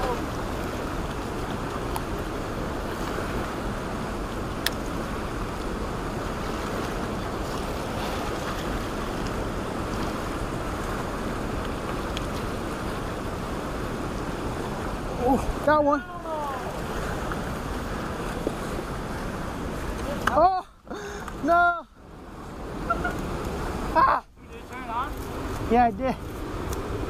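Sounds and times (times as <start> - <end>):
whitewater rapids rushing: 0.0 - 27.0.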